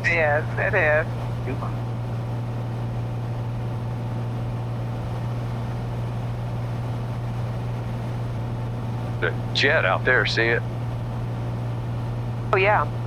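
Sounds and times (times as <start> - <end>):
aircraft engine droning in cabin: 0.0 - 13.0.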